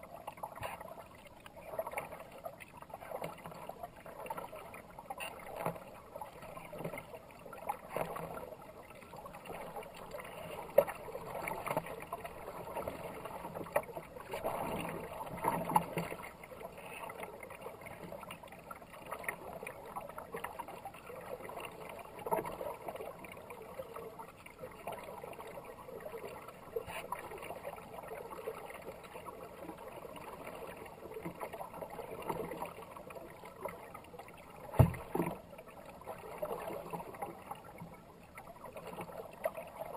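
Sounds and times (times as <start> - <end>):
kayak paddle splashing: 0.0 - 39.9
water rushing along hull: 0.0 - 39.9.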